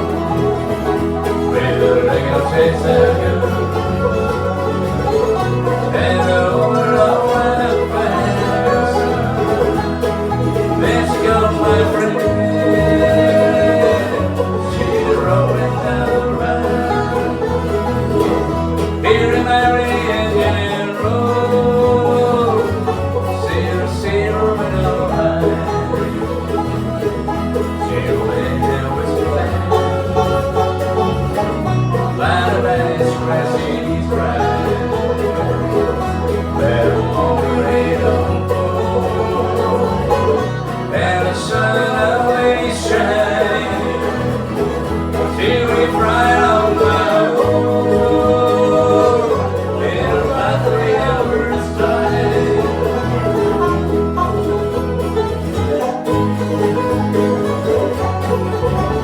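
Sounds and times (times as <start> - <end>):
bluegrass banjo and guitar music: 0.0 - 59.0.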